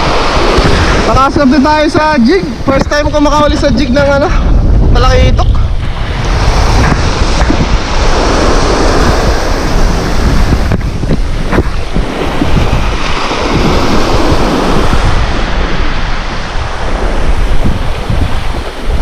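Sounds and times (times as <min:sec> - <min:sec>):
small waves breaking: 0:00.0 - 0:03.5, 0:05.7 - 0:19.0
wind buffeting microphone: 0:00.0 - 0:19.0.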